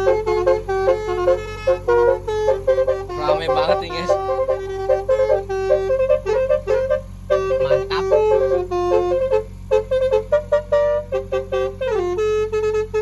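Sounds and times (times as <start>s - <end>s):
multi-tone bus horn tune: 0.0s - 13.0s.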